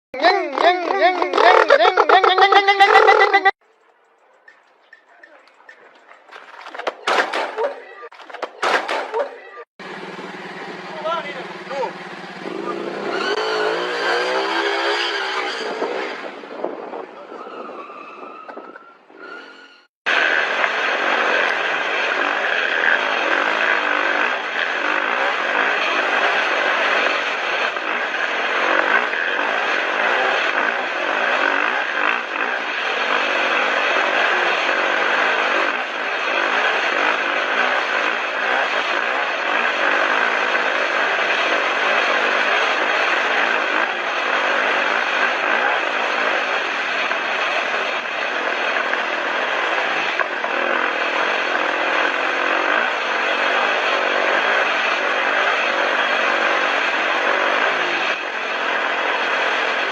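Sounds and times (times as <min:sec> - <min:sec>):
motorcycle engines running: 0:04.1 - 0:17.8, 0:20.2 - 0:59.9.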